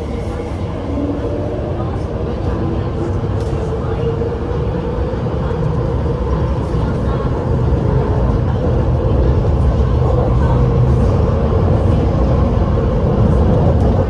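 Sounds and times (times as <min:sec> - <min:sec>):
train cabin rumble: 0:00.0 - 0:14.0.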